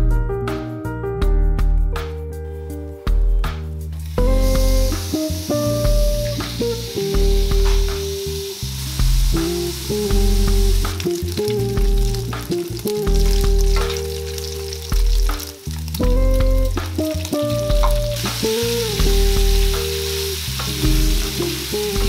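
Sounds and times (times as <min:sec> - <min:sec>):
background music with bass: 0:00.0 - 0:22.0
pork sizzling in hot fat: 0:03.9 - 0:22.0.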